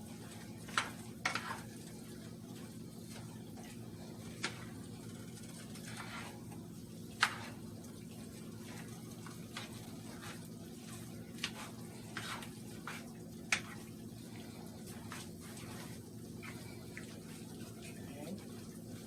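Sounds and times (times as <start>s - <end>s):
food cooking in a pot: 0.0s - 19.0s
steady low hum: 0.0s - 19.0s.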